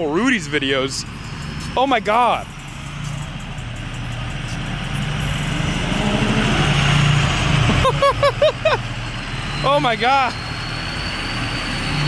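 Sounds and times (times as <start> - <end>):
vehicle engine running slowly: 0.0 - 10.3.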